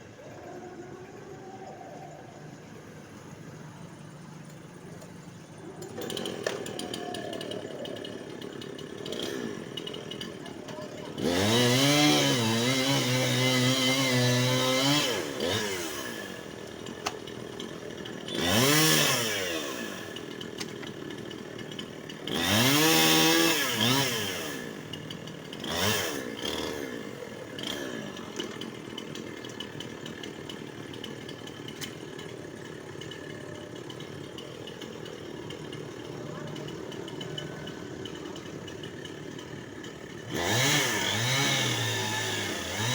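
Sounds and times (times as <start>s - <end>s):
chainsaw revving and idling: 2.4s - 42.9s.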